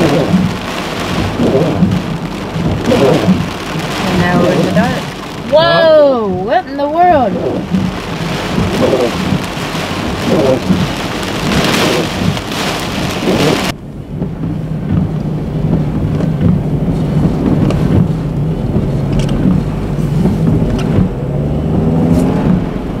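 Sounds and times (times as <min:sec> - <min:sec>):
heavy rain: 0:00.0 - 0:23.0
hurricane wind: 0:00.0 - 0:23.0
tyres on wet road: 0:00.0 - 0:23.0.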